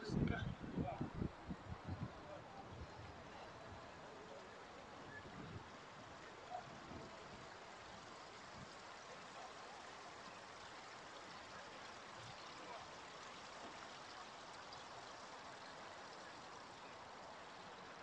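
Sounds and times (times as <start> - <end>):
faint running fountain water: 0.0 - 18.0.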